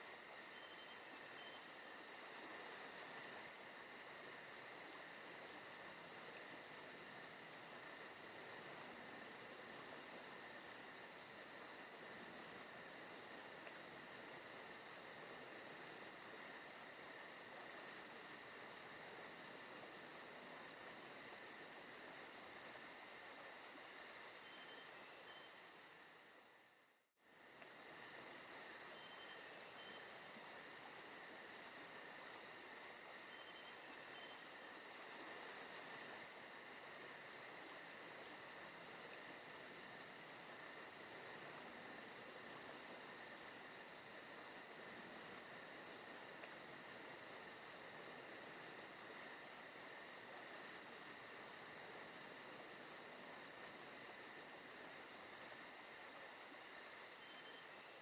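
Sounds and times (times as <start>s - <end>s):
crickets and insects chirring: 0.0s - 58.0s.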